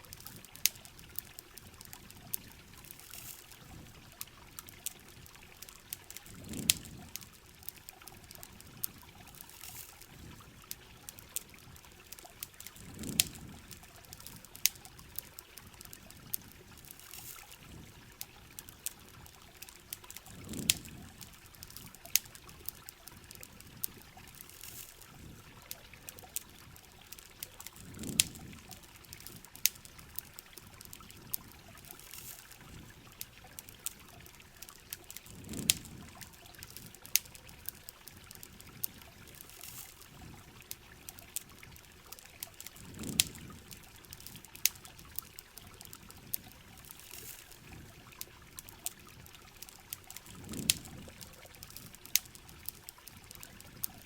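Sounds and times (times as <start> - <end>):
campfire crackling and popping: 0.0 - 54.0
steady rain: 0.0 - 54.0
water trickling and pouring: 0.0 - 54.0.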